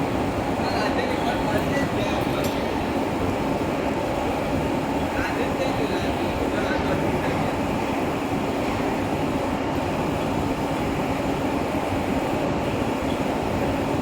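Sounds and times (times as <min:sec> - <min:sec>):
constant machine hum: 0:00.0 - 0:14.0.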